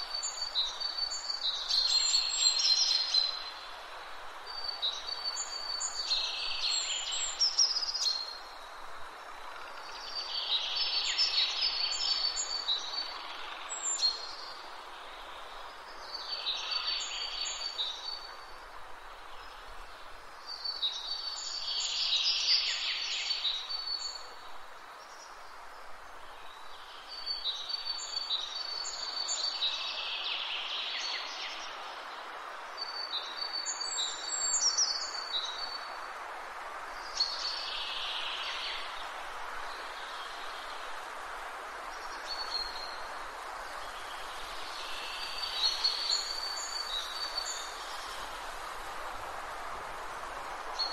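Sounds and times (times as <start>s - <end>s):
songbird singing: 0.0s - 36.2s, 36.9s - 41.0s, 41.8s - 48.5s.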